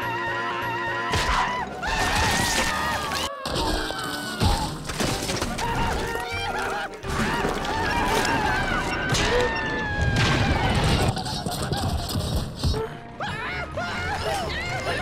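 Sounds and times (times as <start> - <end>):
cartoon background music: 0.0 - 15.0.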